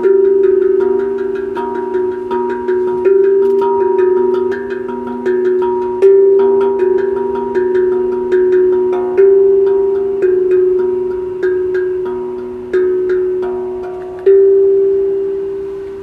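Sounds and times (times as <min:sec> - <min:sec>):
steel hand drum notes: 0:00.0 - 0:16.0.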